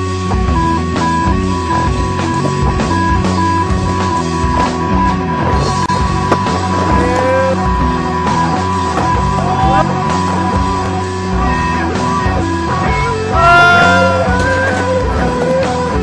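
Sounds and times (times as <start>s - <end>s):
bass: 0.0s - 16.0s
drums: 0.0s - 16.0s
guitar playing bent notes: 0.9s - 16.0s.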